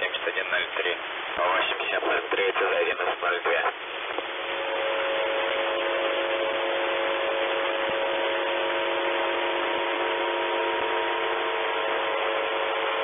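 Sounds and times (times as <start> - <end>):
shortwave radio hiss: 0.0 - 13.0
steady multi-tone hum: 0.0 - 13.0.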